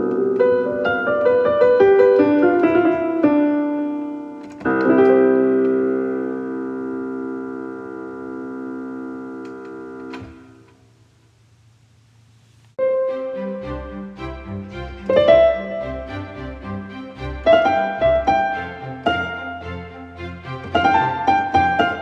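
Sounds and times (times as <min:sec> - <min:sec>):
piano music: 0:00.0 - 0:10.7, 0:12.8 - 0:22.0.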